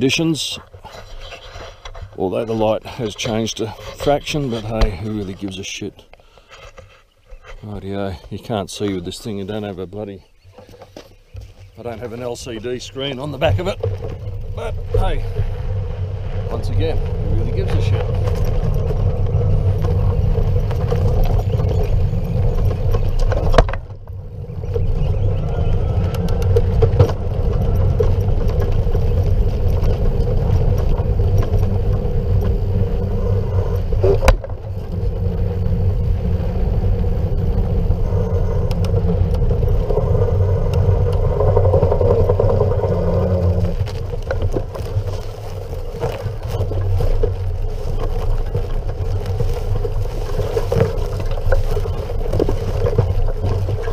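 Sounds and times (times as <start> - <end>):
tyres rolling on dirt track: 0.0 - 53.9.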